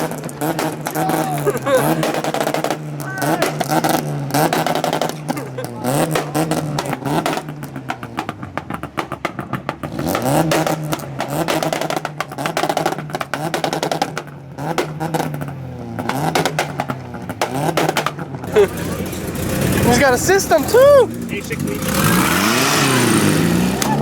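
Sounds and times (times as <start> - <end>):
car engine revving hard: 0.0 - 24.0.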